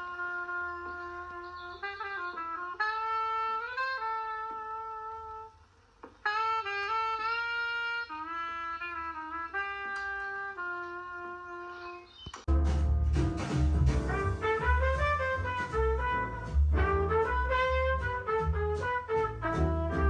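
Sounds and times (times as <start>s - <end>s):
horn playing slow melody: 0.0s - 12.1s, 14.1s - 20.0s.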